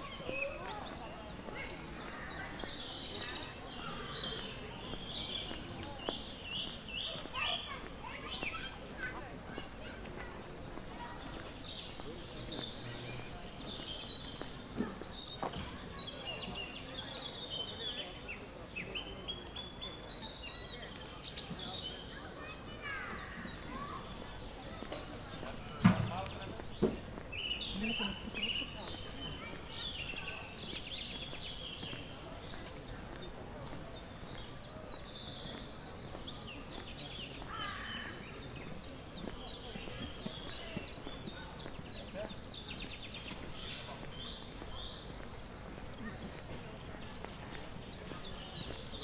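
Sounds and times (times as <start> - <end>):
murmur of voices: 0.0 - 49.0
songbirds chirping: 0.0 - 49.0.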